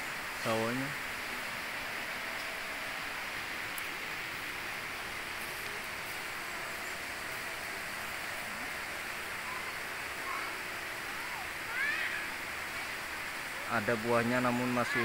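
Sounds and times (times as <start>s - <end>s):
water flowing: 0.0s - 15.0s.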